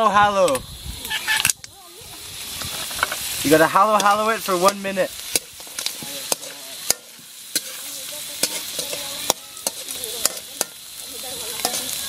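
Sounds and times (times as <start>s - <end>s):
food sizzling in a wok: 0.0s - 12.0s
metal spoon scraping a pan: 1.1s - 1.6s, 2.5s - 12.0s.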